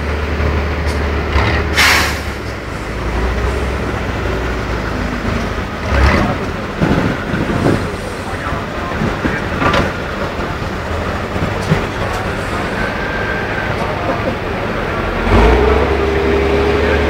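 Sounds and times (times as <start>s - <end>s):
truck engine rumbling under load: 0.0s - 17.0s.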